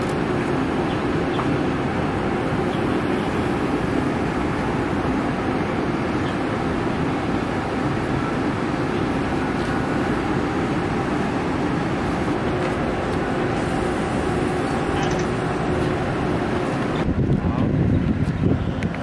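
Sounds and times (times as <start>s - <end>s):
electric train hum: 0.0s - 19.0s.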